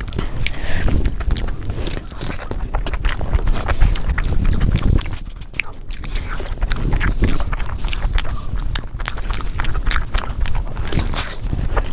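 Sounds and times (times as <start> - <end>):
wet chewing with mouth clicks: 0.0 - 11.9.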